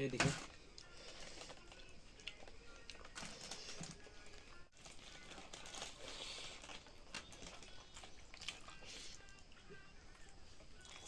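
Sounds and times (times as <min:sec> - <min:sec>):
person chewing food: 0:00.6 - 0:11.0.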